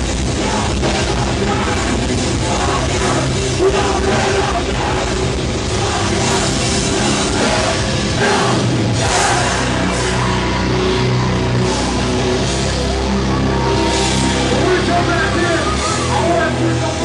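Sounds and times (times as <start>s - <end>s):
death metal band playing: 0.0s - 17.0s.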